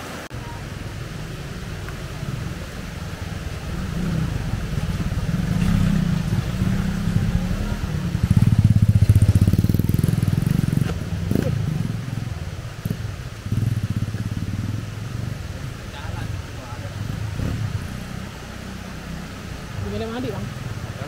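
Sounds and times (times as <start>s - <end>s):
motorcycle engine passing by: 1.5s - 20.5s.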